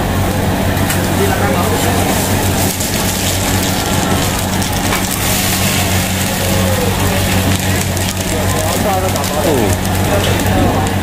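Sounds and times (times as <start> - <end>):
gas stove burners rushing: 0.0 - 11.0
steady low hum: 0.0 - 11.0.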